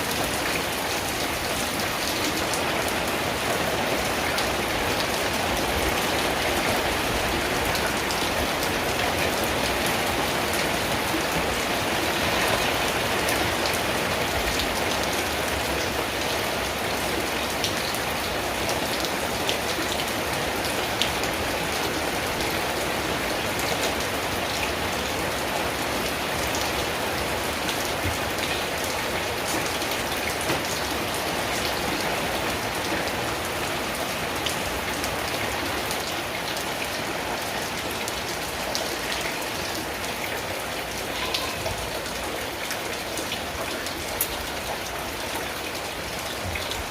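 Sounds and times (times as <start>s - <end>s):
rain on a tin roof: 0.0s - 46.9s.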